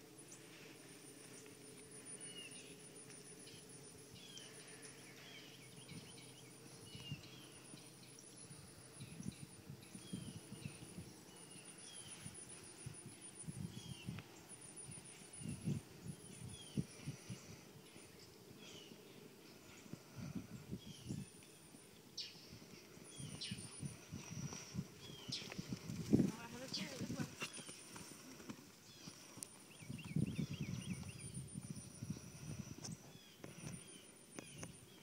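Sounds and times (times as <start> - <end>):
bird chirping: 0.0 - 35.0
faint high pulsing hum: 0.0 - 35.0.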